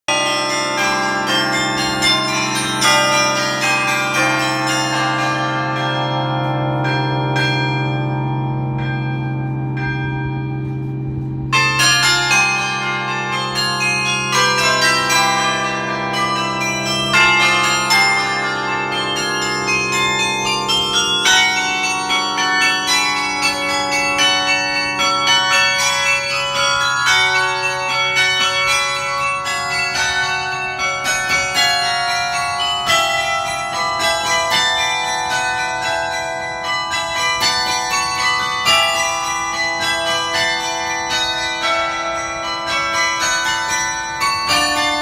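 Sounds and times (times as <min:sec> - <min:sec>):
carillon bells playing a tune: 0:00.1 - 0:45.0
low bell hum: 0:00.1 - 0:45.0.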